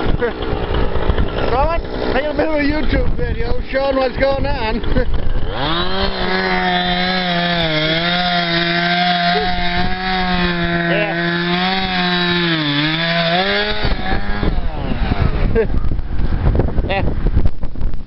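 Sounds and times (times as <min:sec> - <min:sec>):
chainsaw running: 0:00.0 - 0:16.8.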